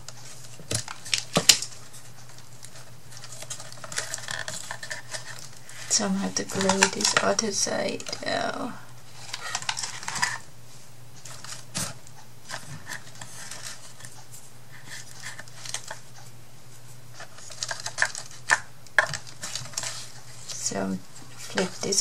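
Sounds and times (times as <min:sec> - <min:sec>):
paper rustling: 0:00.0 - 0:08.4, 0:09.1 - 0:10.4, 0:11.2 - 0:22.0
low steady hum: 0:00.0 - 0:22.0.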